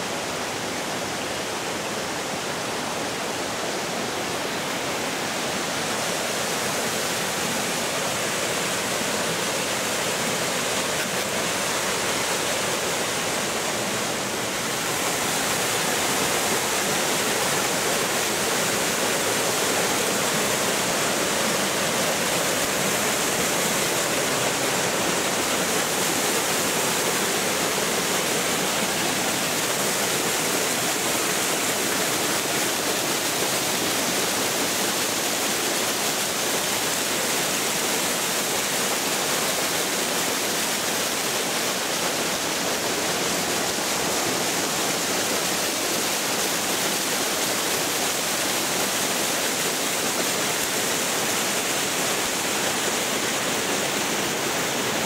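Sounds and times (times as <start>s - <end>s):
waterfall rushing over boulders: 0.0s - 55.0s.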